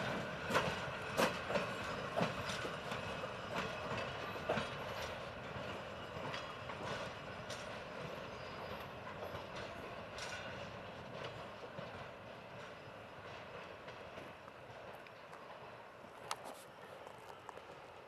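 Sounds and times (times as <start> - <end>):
wheels clicking over rail joints: 0.0 - 15.5
train rumbling on track: 0.0 - 18.0.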